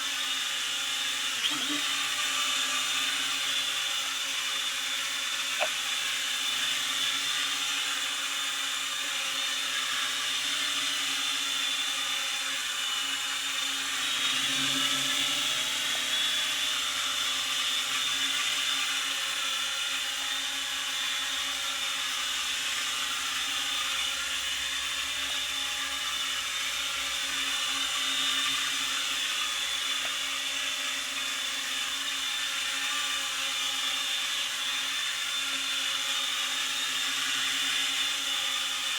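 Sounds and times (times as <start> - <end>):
toy drone propellers whining: 0.0 - 38.9.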